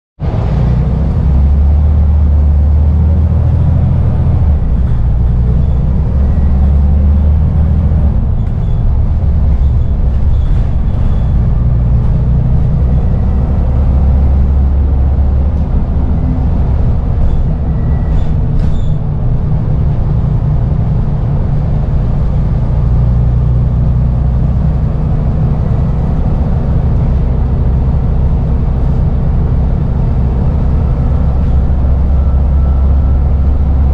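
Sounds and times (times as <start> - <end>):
bus diesel engine droning: 0.2 - 33.9.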